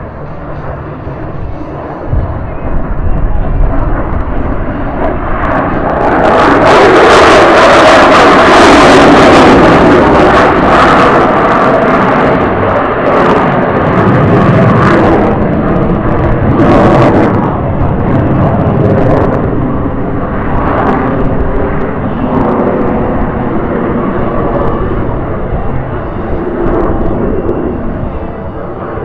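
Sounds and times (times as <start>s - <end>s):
fighter jet roar: 0.0s - 29.0s.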